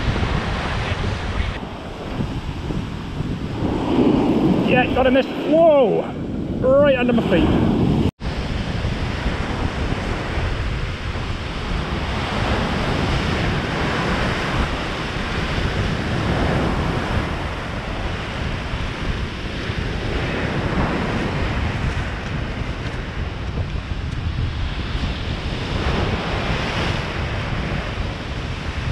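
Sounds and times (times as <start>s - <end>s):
surf breaking on a beach: 0.0s - 28.9s
wind buffeting the microphone: 0.0s - 28.9s.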